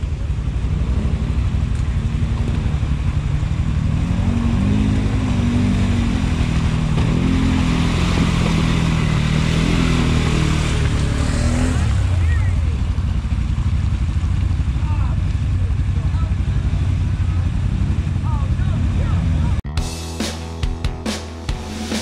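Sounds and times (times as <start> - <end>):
atv engine revving: 0.0 - 19.9.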